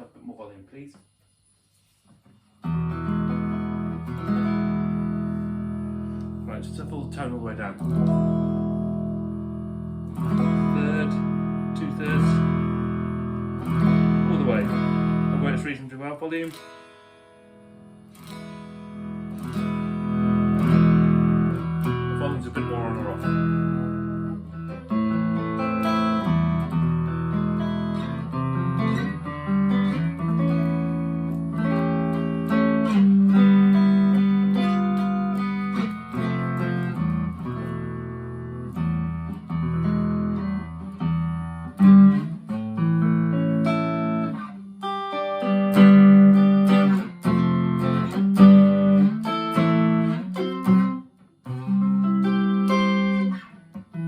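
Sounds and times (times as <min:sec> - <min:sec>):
clean electric guitar: 0:02.1 - 0:54.0.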